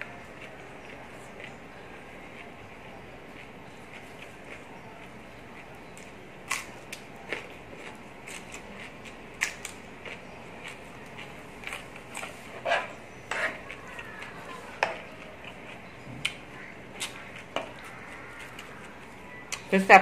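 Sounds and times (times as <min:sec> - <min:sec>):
crunching and chewing vegetables: 0:00.0 - 0:19.8.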